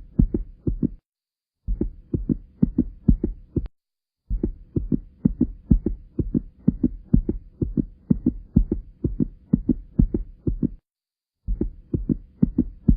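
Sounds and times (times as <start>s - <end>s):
heartbeat thumps: 0.0s - 1.0s, 1.6s - 12.9s.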